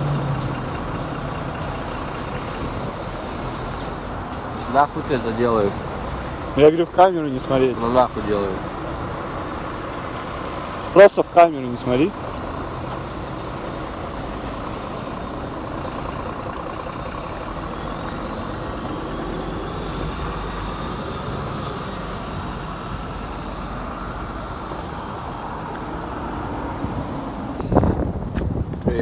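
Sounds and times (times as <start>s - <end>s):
vehicle engines running: 0.0s - 29.0s.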